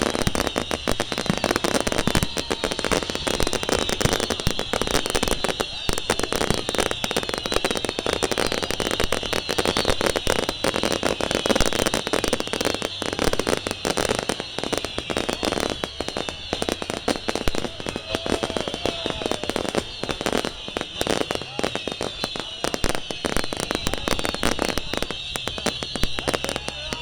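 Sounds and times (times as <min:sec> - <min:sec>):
firecrackers cracking and popping: 0:00.0 - 0:27.0.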